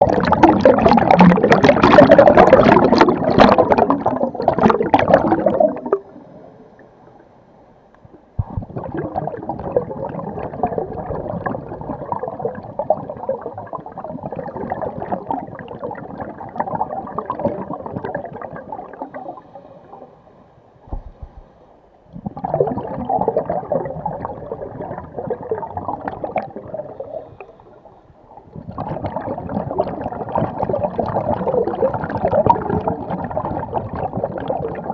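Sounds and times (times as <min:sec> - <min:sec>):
air bubbles gurgling underwater: 0:00.0 - 0:06.9, 0:08.0 - 0:20.1, 0:20.9 - 0:34.9.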